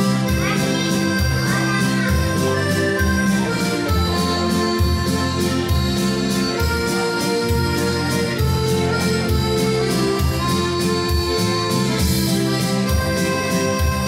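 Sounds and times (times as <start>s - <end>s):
bass line: 0.0s - 14.0s
keyboard accordion-like melody: 0.0s - 14.0s.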